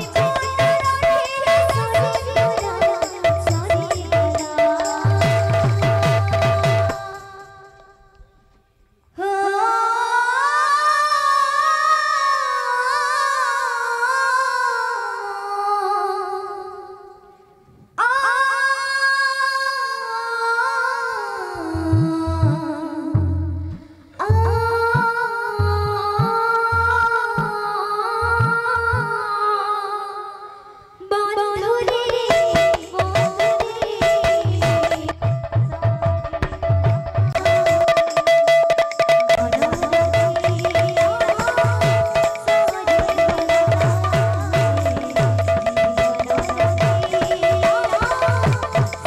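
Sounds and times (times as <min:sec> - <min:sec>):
woman singing into microphone: 0:00.0 - 0:08.0, 0:09.2 - 0:17.2, 0:18.0 - 0:36.5, 0:39.4 - 0:49.0.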